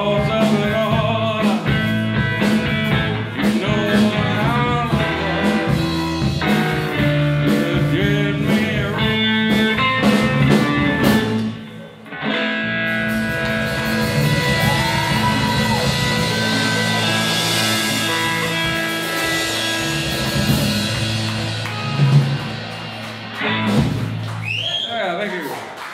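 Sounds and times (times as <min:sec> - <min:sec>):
electric guitar lead lines: 0:00.0 - 0:24.5
live blues band: 0:00.0 - 0:24.7.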